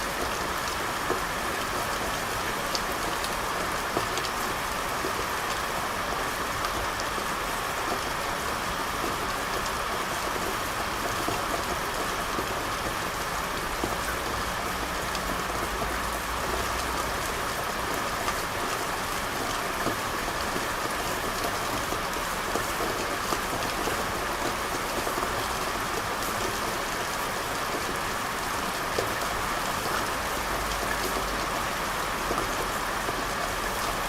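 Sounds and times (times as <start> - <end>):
rain on a hard surface: 0.0 - 34.0.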